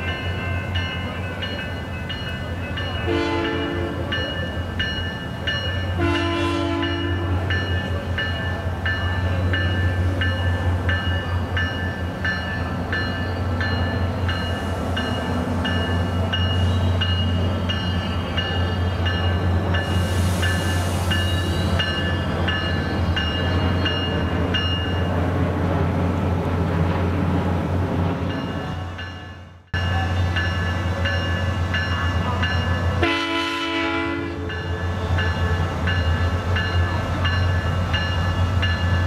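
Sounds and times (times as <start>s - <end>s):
railroad warning bell ringing: 0.0s - 25.2s, 28.2s - 39.0s
train rumbling: 0.0s - 39.0s.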